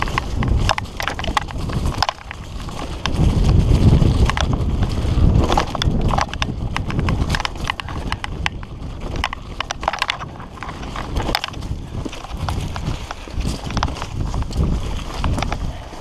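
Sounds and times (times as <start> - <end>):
bike clattering over ground: 0.0 - 16.0
wind rumble on microphone: 0.0 - 16.0.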